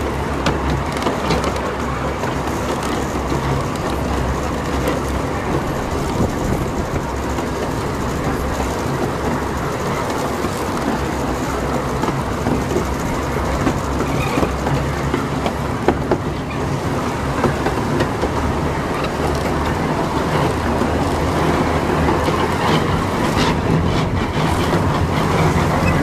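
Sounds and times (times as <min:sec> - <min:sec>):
locomotive engine hum: 0:00.0 - 0:26.0
wheels clicking over rail joints: 0:00.0 - 0:26.0.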